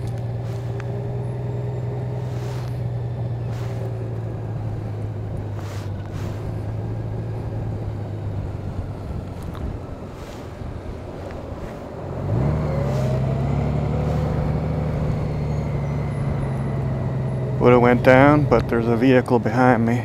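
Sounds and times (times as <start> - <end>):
motorcycle engine running at low revs: 0.0 - 19.8.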